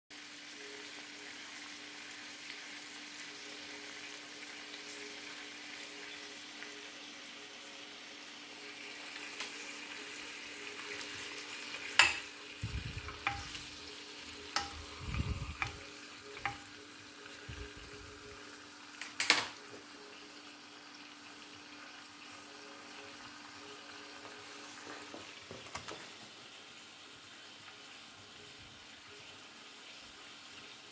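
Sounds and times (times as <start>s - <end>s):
steaks sizzling in pan: 0.2s - 30.9s.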